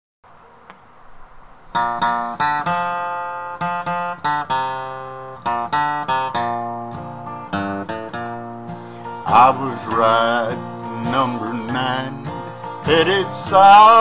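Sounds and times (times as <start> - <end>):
faint hiss: 0.3 - 14.0
acoustic guitar strumming chords: 1.7 - 14.0.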